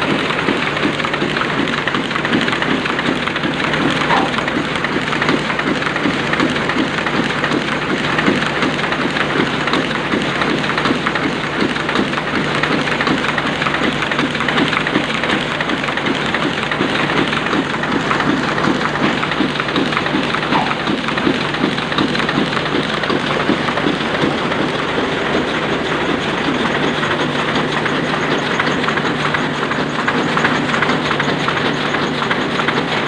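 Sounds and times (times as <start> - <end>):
printing press rhythmic clatter: 0.0 - 33.0.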